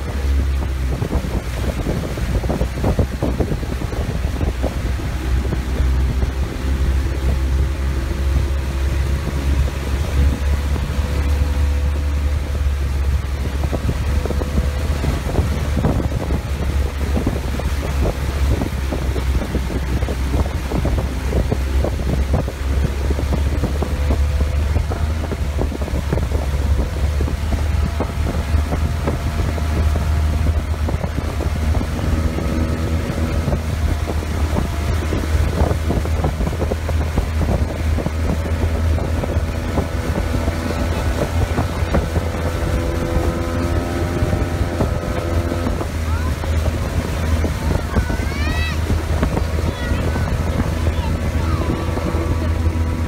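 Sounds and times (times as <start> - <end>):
higher steady hum: 0.0 - 53.0
motorboat engine droning: 0.0 - 53.0.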